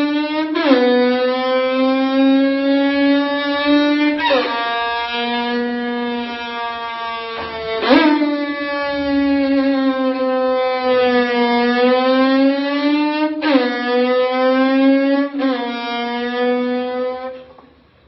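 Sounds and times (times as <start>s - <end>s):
violin bowed long note: 0.0s - 17.6s.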